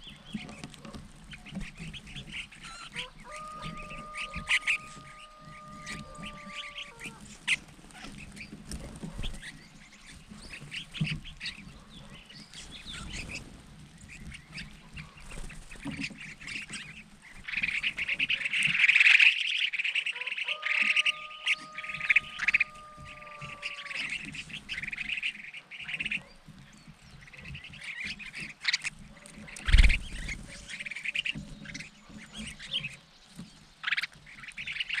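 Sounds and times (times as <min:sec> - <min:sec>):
birds calling and chattering: 0:00.0 - 0:35.0.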